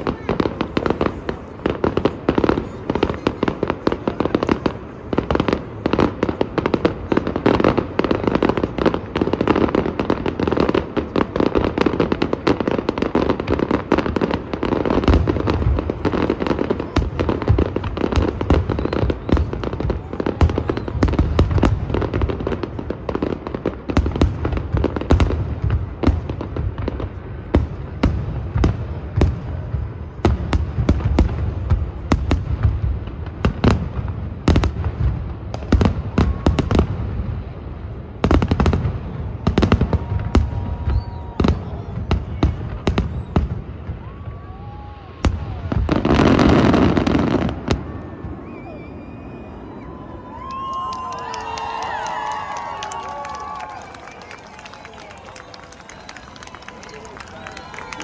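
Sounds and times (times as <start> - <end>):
firework bangs and crackles: 0.0 - 58.0.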